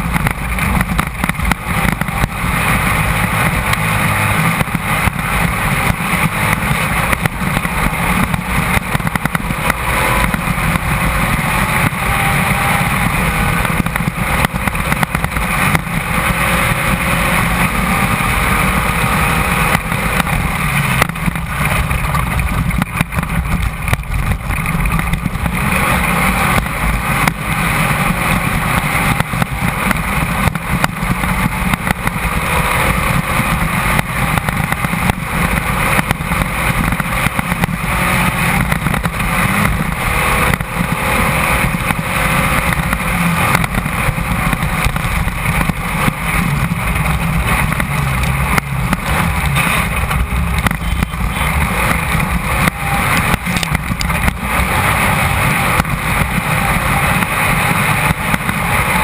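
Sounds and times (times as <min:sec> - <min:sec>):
car knocks and rattles: 0:00.0 - 0:59.0
race car engine revving: 0:00.0 - 0:59.0
wind and road noise: 0:00.0 - 0:59.0.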